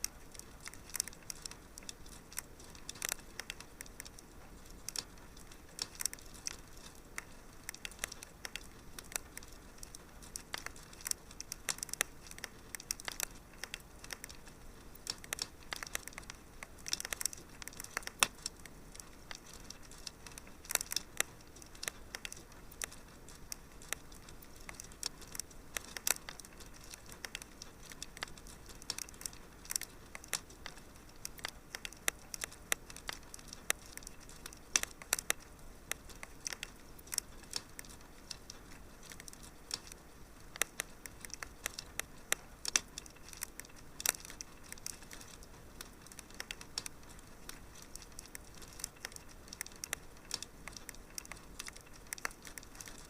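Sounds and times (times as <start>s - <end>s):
soft steady hiss: 0.0s - 53.0s
wood fire crackling: 0.0s - 53.0s.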